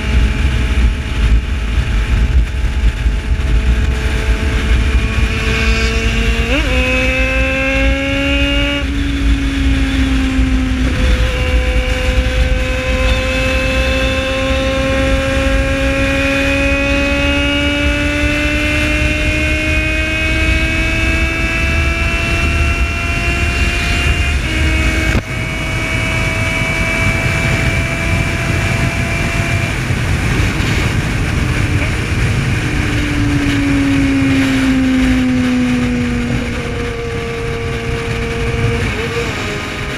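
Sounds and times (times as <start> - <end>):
motorcycle engine accelerating: 0.0 - 39.9
wind rush on microphone: 0.0 - 39.9.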